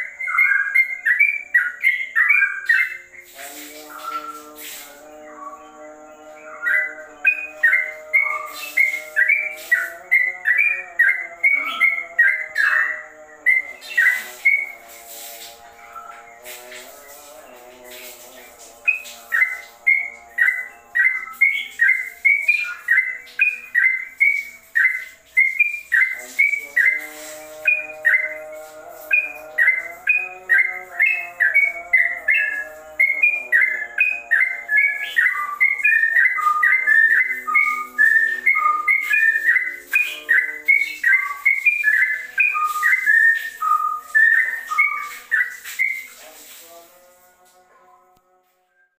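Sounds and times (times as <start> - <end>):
bird singing whistled notes: 0.0 - 17.3, 17.9 - 46.6.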